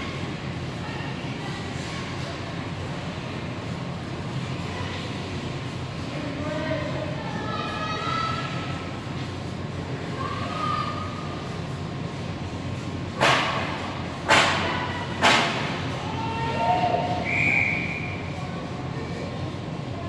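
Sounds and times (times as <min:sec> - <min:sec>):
ice rink background: 0:00.0 - 0:20.0.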